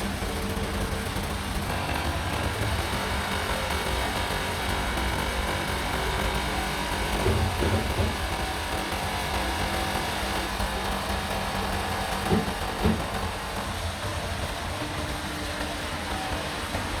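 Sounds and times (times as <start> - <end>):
workshop machine hum: 0.0 - 17.0.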